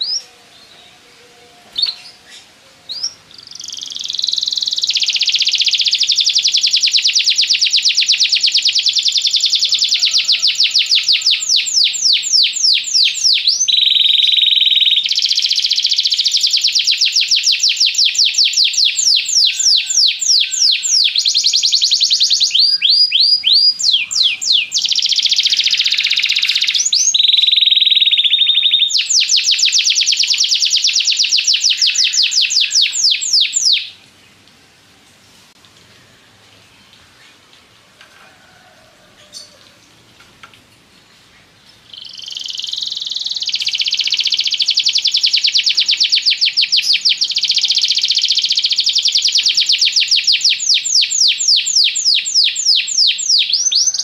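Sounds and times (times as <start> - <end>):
canary singing trills: 0.0 - 34.0, 41.7 - 54.0.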